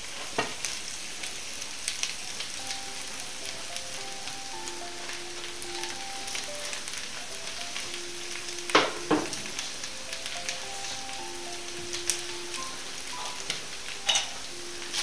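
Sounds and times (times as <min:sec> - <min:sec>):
potatoes frying with crackling: 0:00.0 - 0:15.0.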